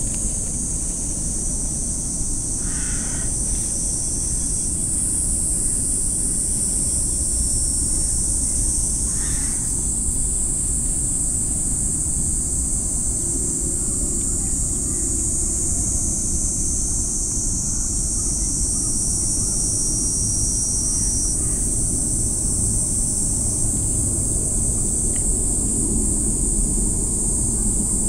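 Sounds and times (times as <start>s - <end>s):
low wind rumble on microphone: 0.0s - 28.0s.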